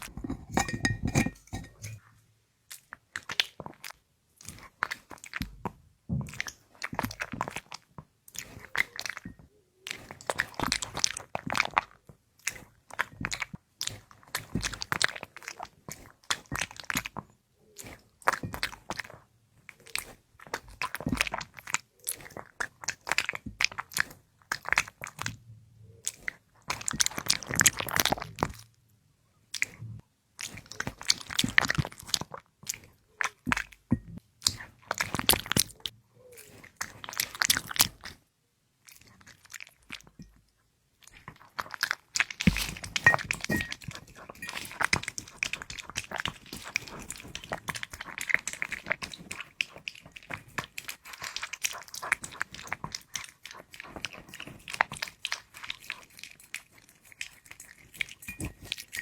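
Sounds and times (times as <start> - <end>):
dog chewing and crunching food: 0.0 - 2.1, 2.7 - 25.4, 26.0 - 28.7, 29.5 - 59.0.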